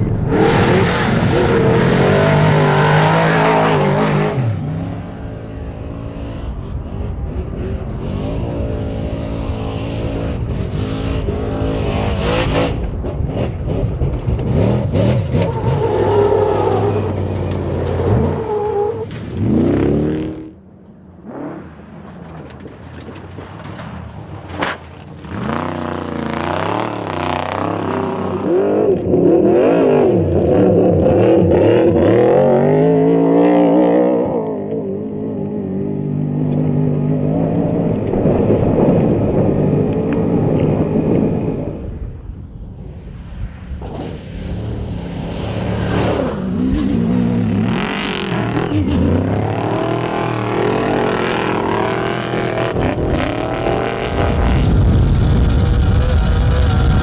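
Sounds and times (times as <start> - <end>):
racing truck engines revving: 0.0 - 42.4, 43.6 - 57.0.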